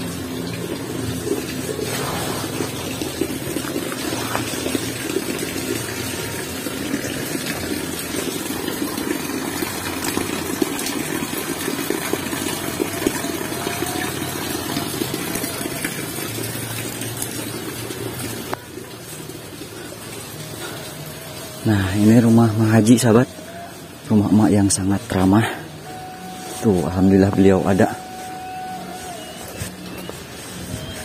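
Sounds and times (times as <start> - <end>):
water pouring into tank: 0.0 - 31.0.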